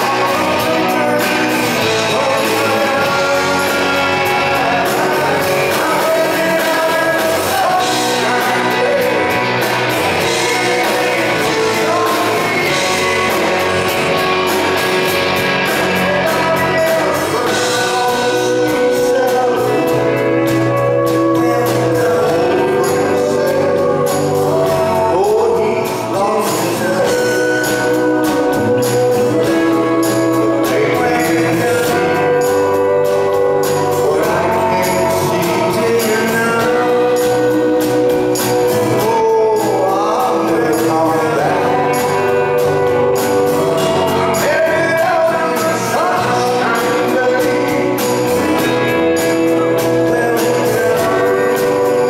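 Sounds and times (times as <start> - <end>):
live band music: 0.0 - 52.0
man singing lead: 0.0 - 52.0.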